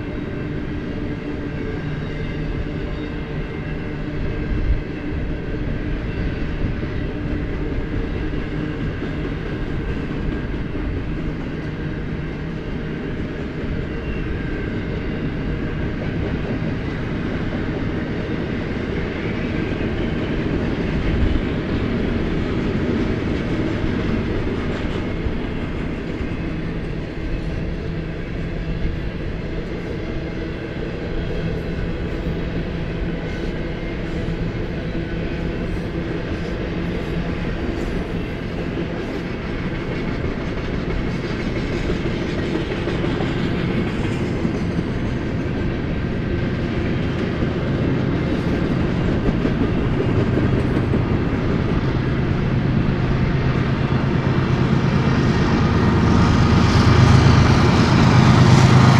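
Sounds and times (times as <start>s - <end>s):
steel wheels clattering on rail: 0.0s - 58.9s
train cars clunking: 7.7s - 58.9s.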